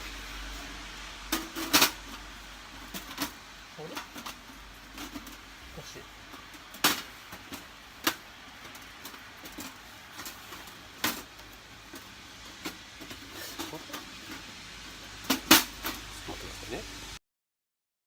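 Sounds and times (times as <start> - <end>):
metal stove parts clinking: 0.6 - 16.7.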